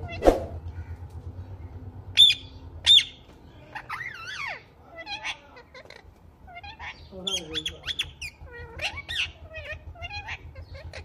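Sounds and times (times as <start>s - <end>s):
parakeet chatter: 2.2s - 11.0s
parakeet warbling call: 2.2s - 11.0s.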